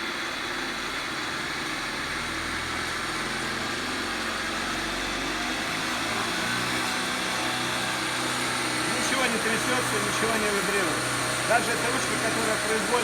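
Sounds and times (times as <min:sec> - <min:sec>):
driveshaft spinning whir: 0:00.0 - 0:13.0.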